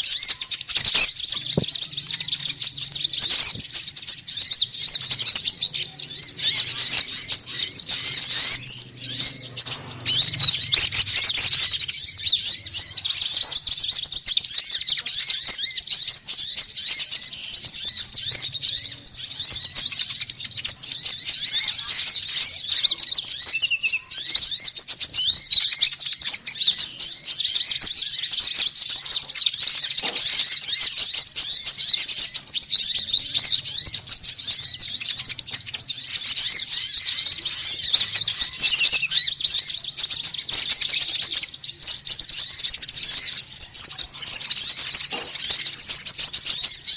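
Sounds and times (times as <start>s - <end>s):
small birds chirping rapidly: 0.0s - 46.9s.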